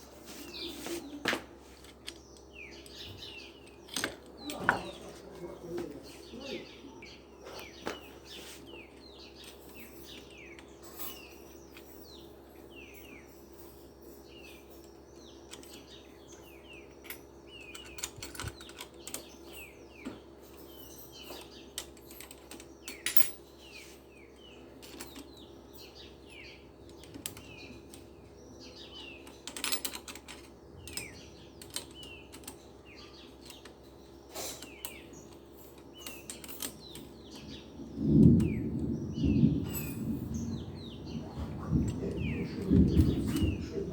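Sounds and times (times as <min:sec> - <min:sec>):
small birds chirping: 0:00.0 - 0:43.9
steady low hum: 0:00.0 - 0:43.9.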